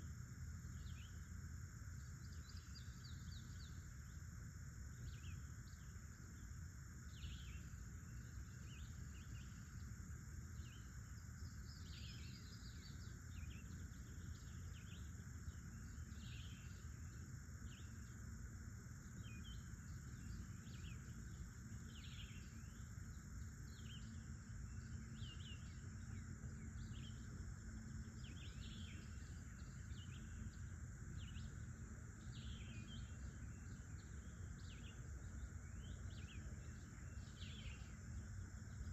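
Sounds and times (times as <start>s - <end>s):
high insect drones: 0.0s - 38.9s.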